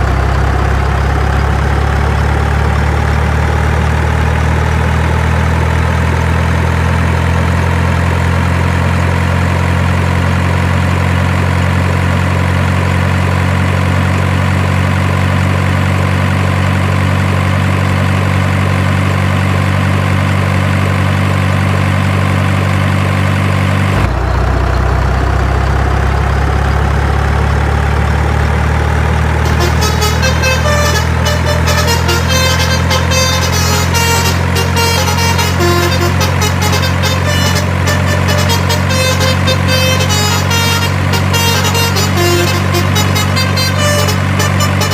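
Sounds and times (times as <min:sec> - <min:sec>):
truck engine drone: 0:00.0 - 0:44.9.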